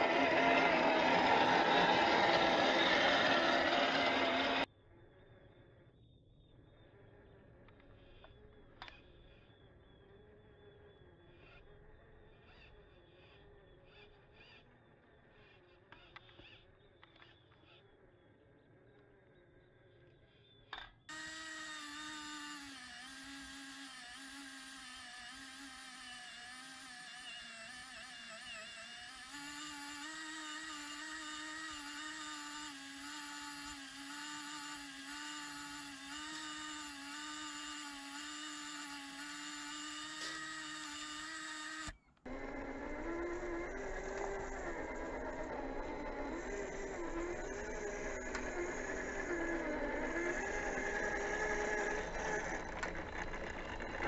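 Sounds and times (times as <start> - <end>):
electric motor and gearbox whine: 0.0 - 54.0.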